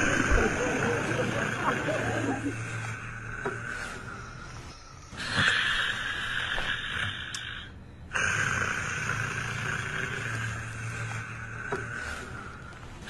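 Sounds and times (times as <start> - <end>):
man snoring: 0.0 - 12.8.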